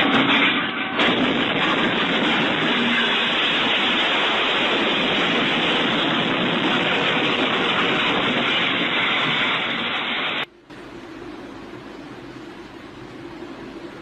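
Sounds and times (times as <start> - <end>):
loud rushing hiss: 0.0 - 14.0.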